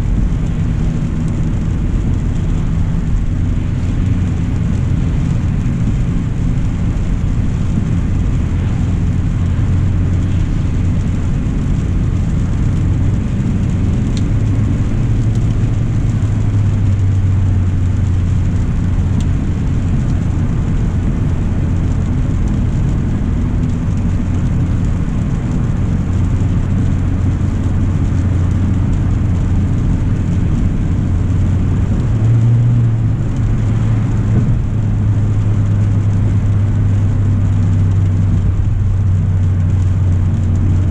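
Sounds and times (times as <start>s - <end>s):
car engine drone: 0.0s - 40.9s
tyres hissing on wet road: 0.0s - 40.9s.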